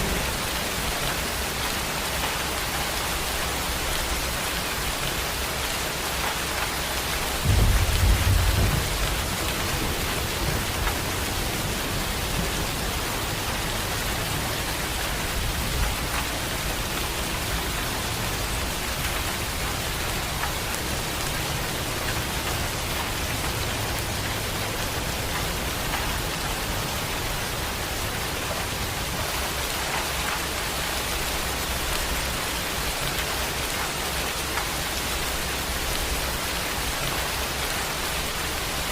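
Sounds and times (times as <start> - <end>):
thunder clap and rumble: 0.0 - 38.8
heavy rain falling: 0.0 - 38.9.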